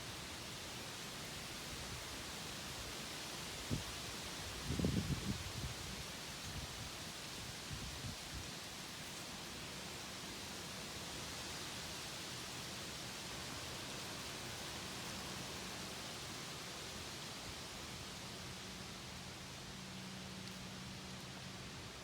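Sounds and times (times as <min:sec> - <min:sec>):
wind rustling leaves: 0:00.0 - 0:22.0.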